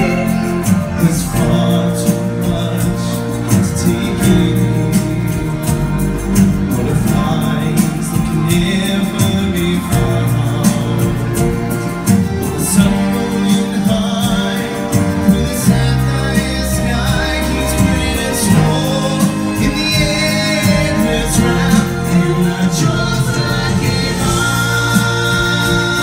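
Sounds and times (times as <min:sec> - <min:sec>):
stage show music with singing: 0:00.0 - 0:26.0.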